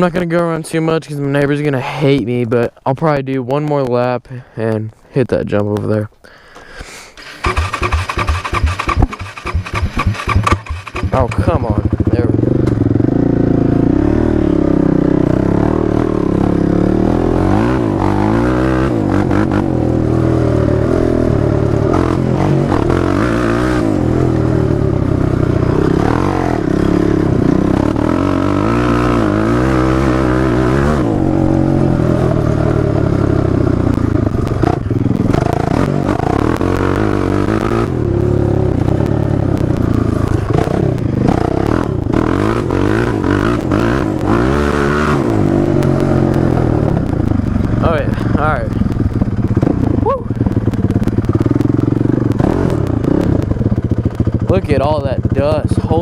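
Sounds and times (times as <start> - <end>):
quad bike engine revving: 7.2 - 56.0.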